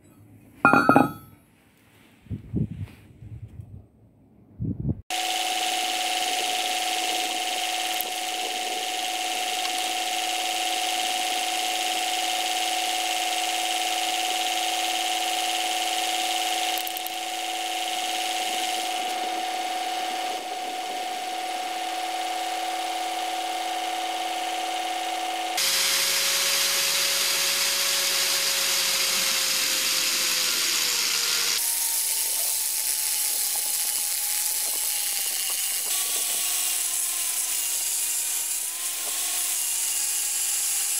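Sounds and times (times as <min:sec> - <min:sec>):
angle grinder whining: 0:05.1 - 0:40.9
disc grinding steel: 0:05.2 - 0:40.9.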